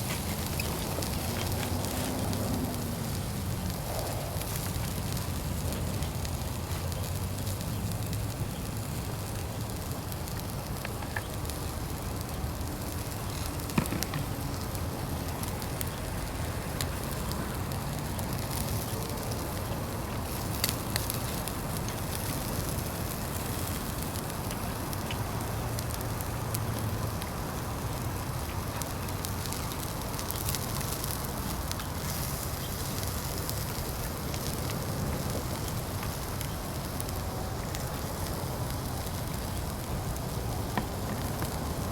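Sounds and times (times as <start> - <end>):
fire crackling and popping: 0.0 - 41.9
fire hissing: 0.0 - 41.9.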